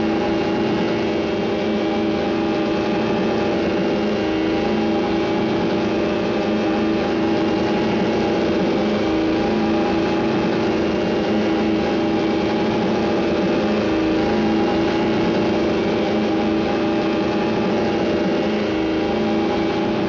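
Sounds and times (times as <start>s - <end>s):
small motor running steadily: 0.0s - 20.0s.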